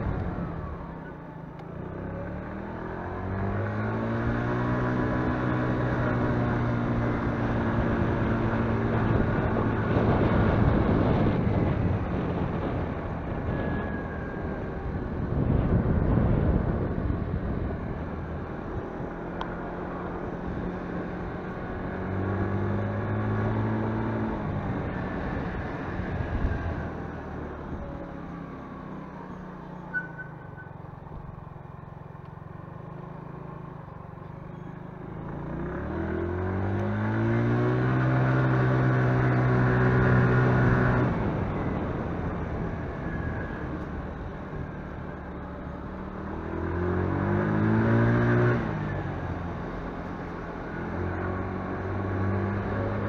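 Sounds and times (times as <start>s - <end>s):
motorcycle engine revving: 1.7s - 33.8s, 34.6s - 53.0s.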